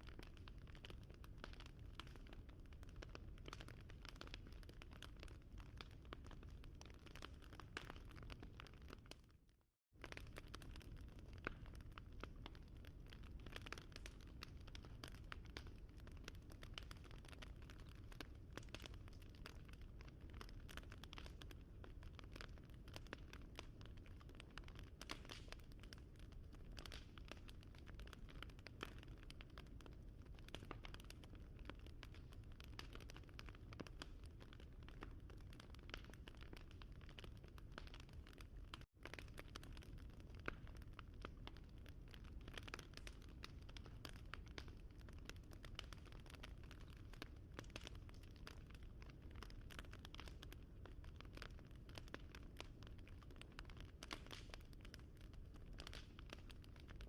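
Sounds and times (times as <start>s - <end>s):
wood fire crackling: 10.0s - 57.0s.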